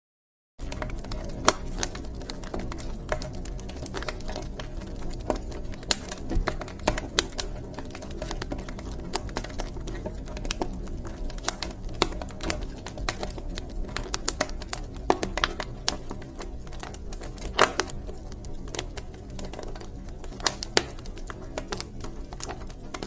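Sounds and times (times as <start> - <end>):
wood fire crackling: 0.6 - 23.0.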